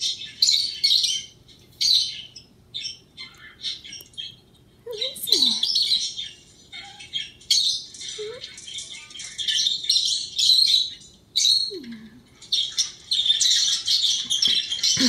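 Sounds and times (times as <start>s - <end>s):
pet bird chirping and chattering: 0.0s - 15.0s.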